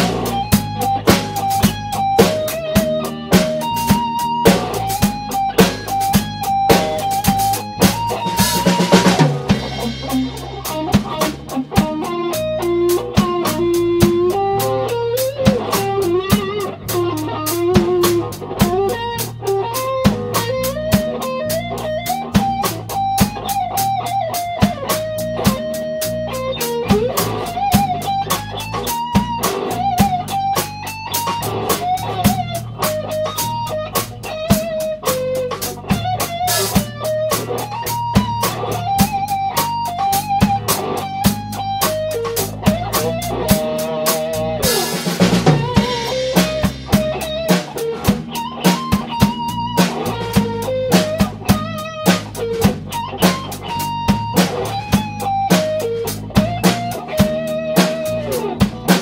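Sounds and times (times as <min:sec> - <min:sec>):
bass guitar: 0:00.0 - 0:59.0
drum kit beat: 0:00.0 - 0:59.0
electric guitar lead melody: 0:00.0 - 0:59.0.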